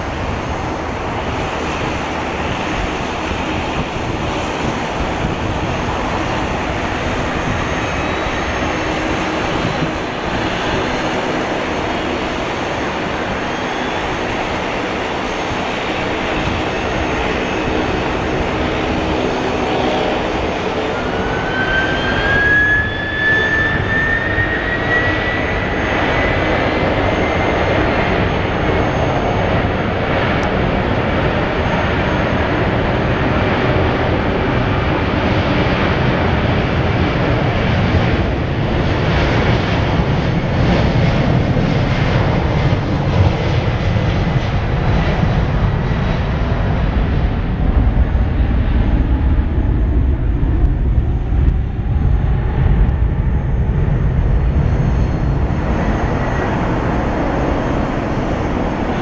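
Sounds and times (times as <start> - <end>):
jet engines spooling up: 0.0 - 59.0
rising engine whine: 0.0 - 59.0.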